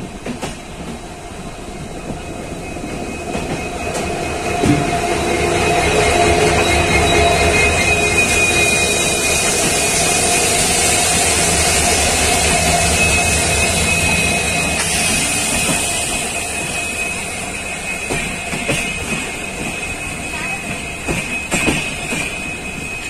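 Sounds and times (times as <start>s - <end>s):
diesel locomotive engines whining: 0.0s - 23.0s
train coach rolling: 0.0s - 23.0s.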